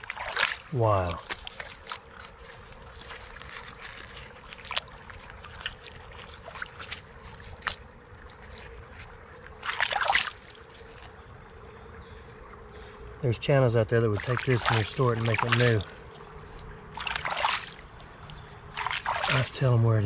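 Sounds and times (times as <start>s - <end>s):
splashing: 0.0s - 11.7s, 14.0s - 20.0s
creek water over rocks: 0.0s - 20.0s.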